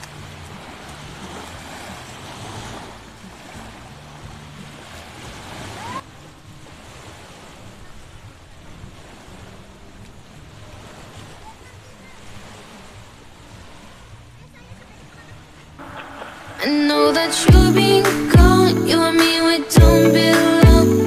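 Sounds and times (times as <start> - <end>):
water splashing in shallows: 0.0 - 17.4
small waves washing on shore: 0.0 - 20.6.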